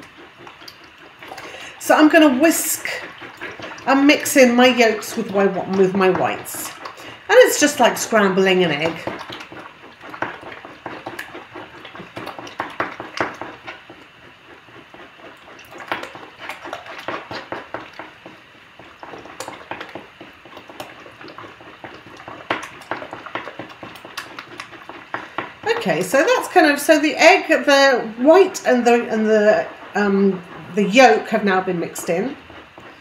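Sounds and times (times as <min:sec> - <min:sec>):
fork whisking eggs: 0:00.0 - 0:33.0.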